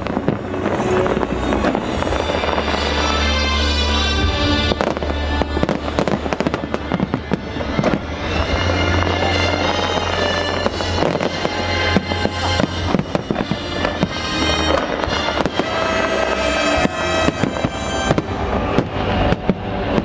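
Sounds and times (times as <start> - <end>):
fireworks bangs and crackles: 0.0 - 20.0
loud show music: 0.0 - 20.0.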